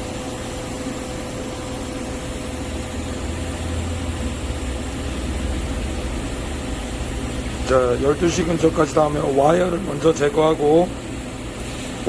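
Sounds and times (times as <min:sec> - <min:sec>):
faint steady whine: 0:00.0 - 0:12.0
low machine hum: 0:00.0 - 0:12.0.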